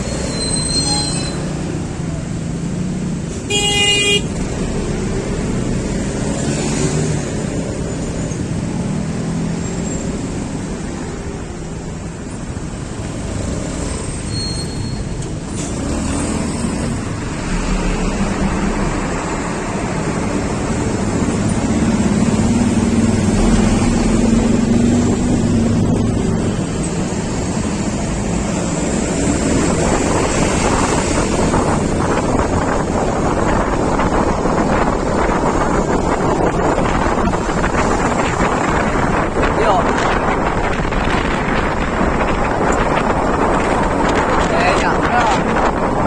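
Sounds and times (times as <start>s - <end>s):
road and wind rush: 0.0s - 46.0s
vehicle engine hum: 0.0s - 46.0s.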